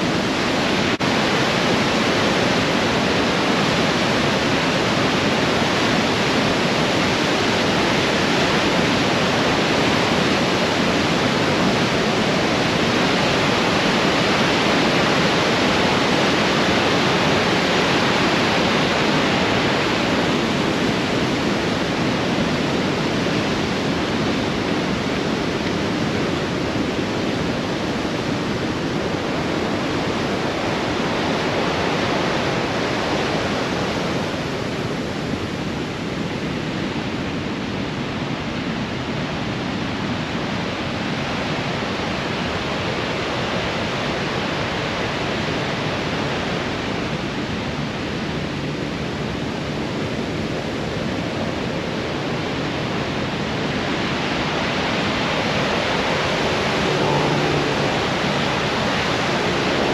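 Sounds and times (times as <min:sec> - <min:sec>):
water rushing over rocks: 0:00.0 - 0:36.6, 0:41.8 - 0:59.9.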